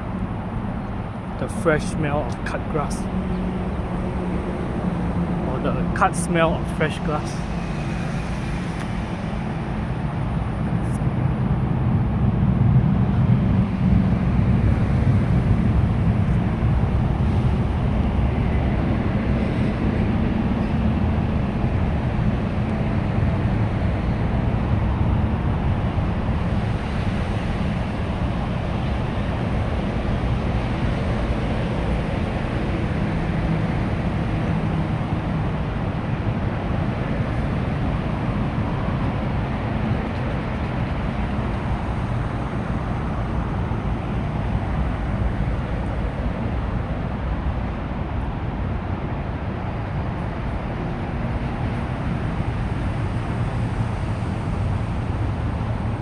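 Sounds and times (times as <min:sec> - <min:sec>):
road traffic roar: 0:00.0 - 0:56.0.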